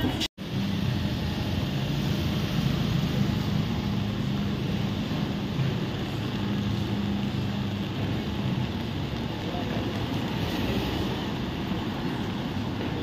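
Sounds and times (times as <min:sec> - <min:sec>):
broad noise wash: 0:00.0 - 0:13.0
low engine hum: 0:00.4 - 0:13.0.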